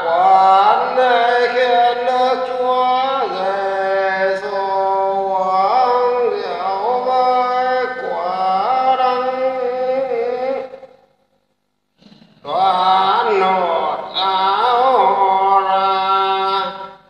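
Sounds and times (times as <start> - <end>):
man chanting: 0.0 - 10.9, 12.4 - 17.0.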